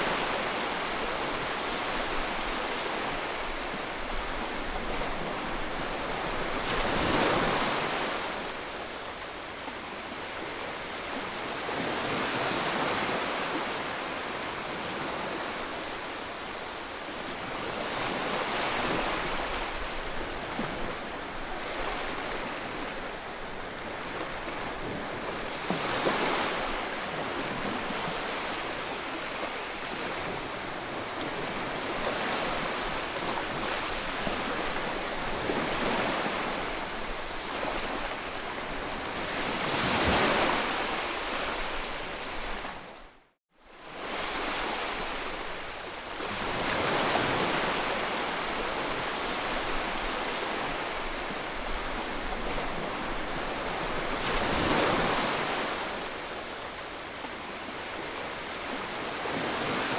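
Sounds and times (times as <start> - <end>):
ocean waves washing on shore: 0.0 - 59.9.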